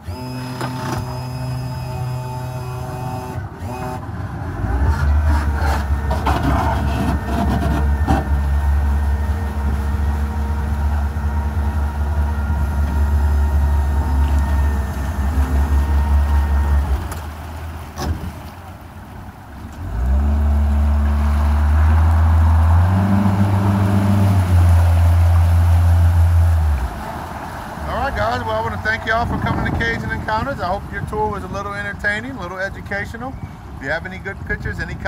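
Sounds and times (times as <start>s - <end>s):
outboard motor running: 0.0s - 33.8s.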